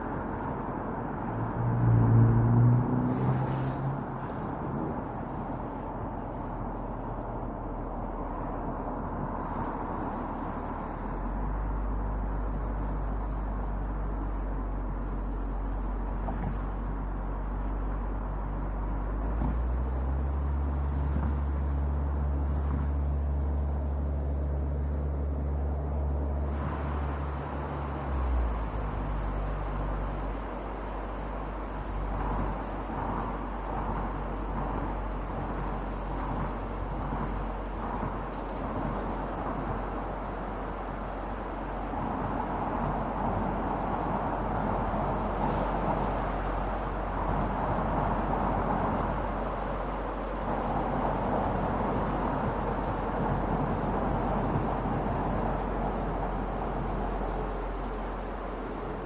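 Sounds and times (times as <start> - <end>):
low hum: 0.0 - 59.0
road and wind noise: 0.0 - 59.0.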